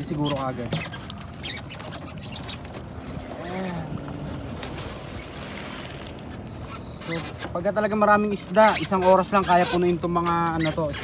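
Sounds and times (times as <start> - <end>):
sea water washing: 0.0 - 10.4
wind: 0.0 - 11.0.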